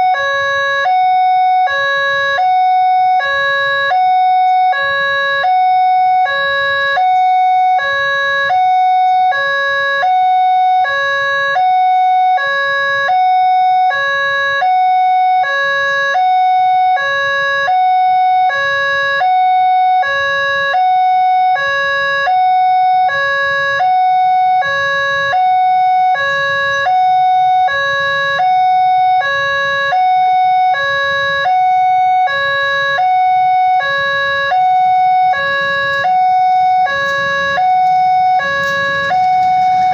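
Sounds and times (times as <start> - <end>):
level crossing warning alarm: 0.0 - 39.9.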